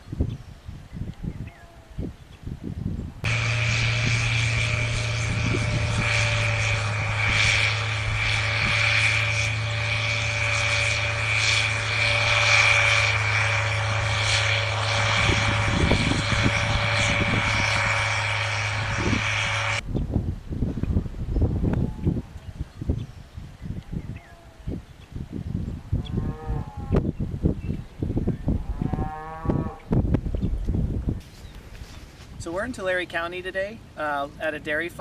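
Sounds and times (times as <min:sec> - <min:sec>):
mechanical hum and whine: 0:00.0 - 0:35.0.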